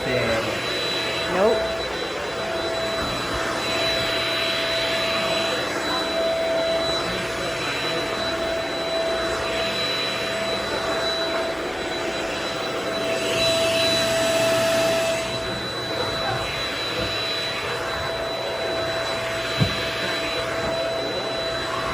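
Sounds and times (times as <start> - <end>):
vacuum cleaner running over rug: 0.0 - 21.9.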